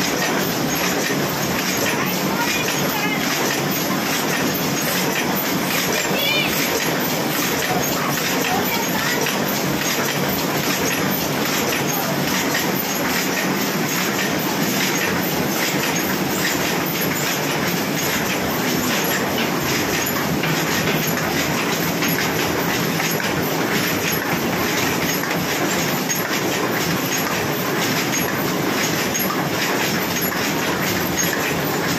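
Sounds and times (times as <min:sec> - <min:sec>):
machine clattering fast: 0:00.0 - 0:31.9.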